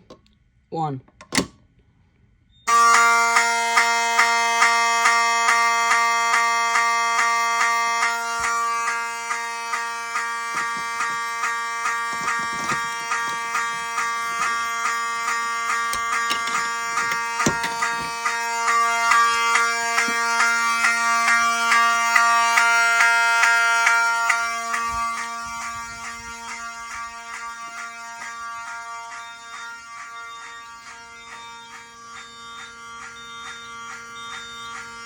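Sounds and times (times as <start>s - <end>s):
pulsing fire alarm horn: 2.6s - 35.0s
steady buzzing alarm tone: 2.6s - 35.0s.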